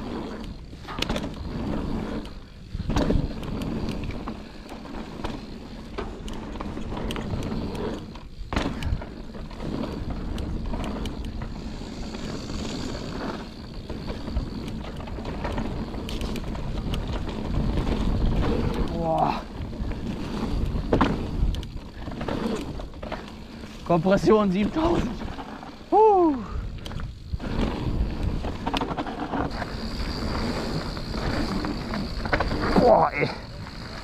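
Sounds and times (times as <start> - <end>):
bike clattering over bumps: 0.0 - 25.9, 26.5 - 34.0
tyres rumbling on dirt: 0.0 - 26.0, 26.8 - 34.0
wind on camera: 6.2 - 34.0.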